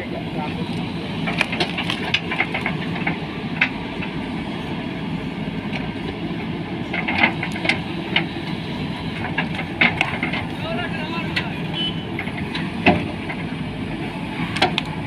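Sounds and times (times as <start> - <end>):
diesel engines running under load: 0.0 - 15.0.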